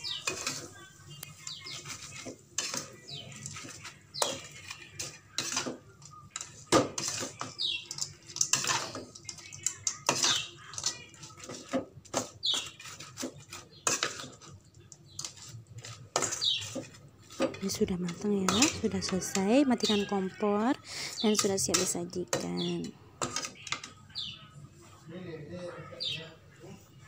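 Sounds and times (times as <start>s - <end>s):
spatula scraping a wok: 0.1s - 23.8s.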